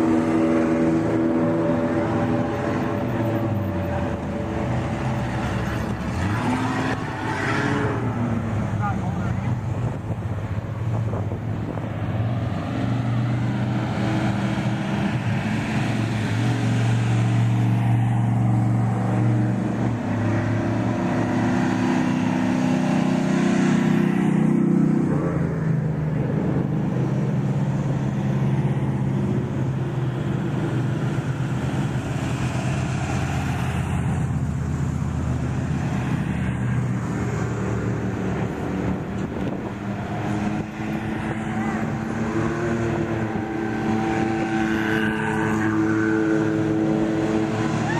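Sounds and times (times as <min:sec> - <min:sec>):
off-road vehicle engines running: 0:00.0 - 0:47.9.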